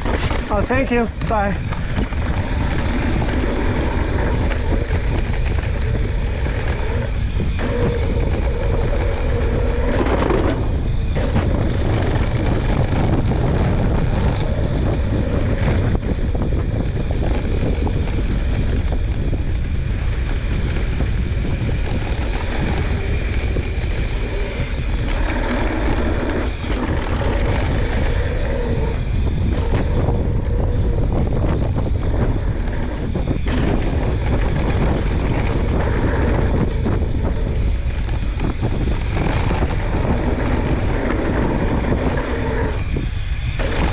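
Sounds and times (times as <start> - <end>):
bike tyres rolling on dirt: 0.0 - 43.9
wind rush on microphone: 0.0 - 43.9.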